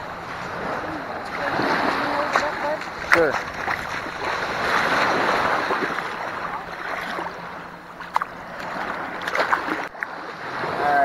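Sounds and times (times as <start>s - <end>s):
seawater sloshing and splashing: 0.0s - 10.9s.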